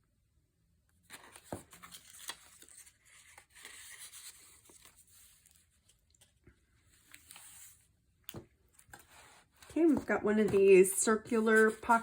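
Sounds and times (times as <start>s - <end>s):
paper pages rustling: 1.1s - 12.0s.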